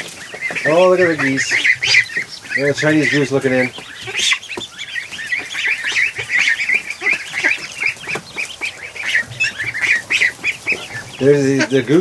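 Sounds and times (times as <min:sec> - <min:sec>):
ducklings and goslings peeping: 0:00.0 - 0:12.0.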